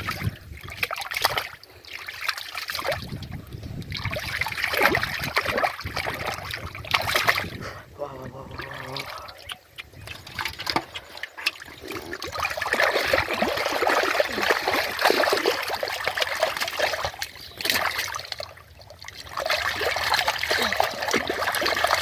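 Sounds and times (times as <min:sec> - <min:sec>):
muddy water splashing: 0:00.0 - 0:22.0.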